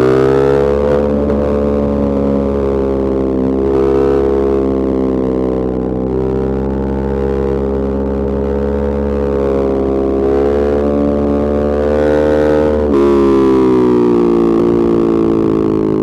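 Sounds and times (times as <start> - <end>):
motorcycle engine and exhaust: 0.0 - 16.0.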